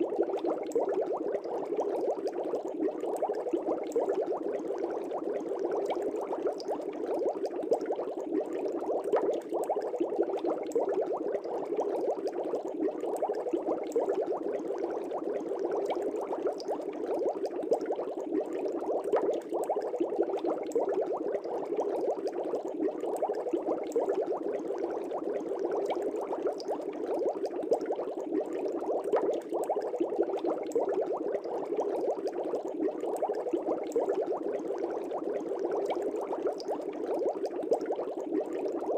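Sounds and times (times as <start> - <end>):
fish tank bubbling: 0.0 - 38.9.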